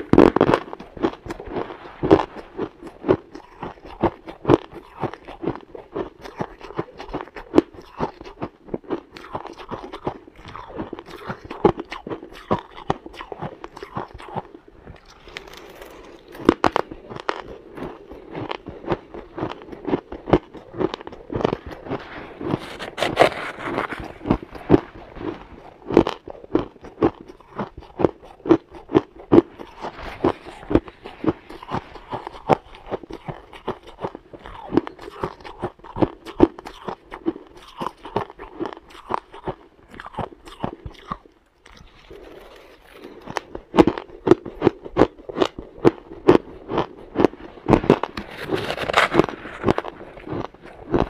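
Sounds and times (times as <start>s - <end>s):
ice being chewed crunching: 0.0s - 51.0s.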